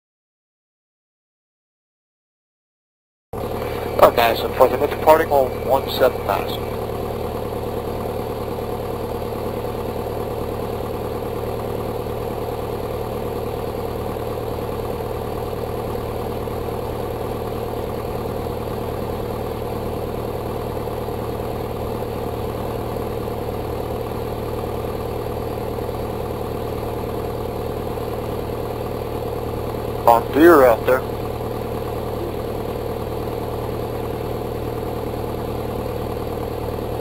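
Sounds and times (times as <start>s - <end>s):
propeller aircraft engine droning: 3.4s - 37.0s.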